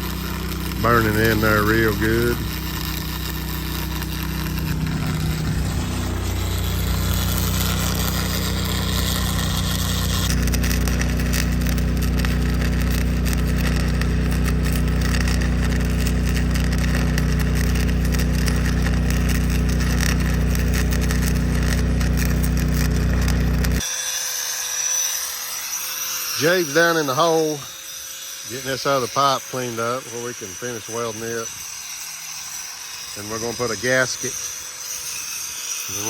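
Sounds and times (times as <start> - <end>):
welder engine running: 0.0 - 23.9, 26.4 - 36.0
welding arc crackling and hissing: 0.0 - 36.0.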